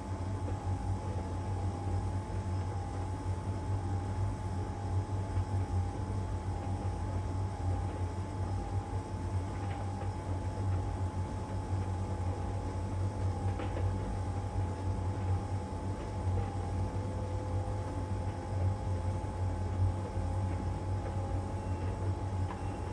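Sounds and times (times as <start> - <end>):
tumble dryer humming and whining: 0.0 - 22.9.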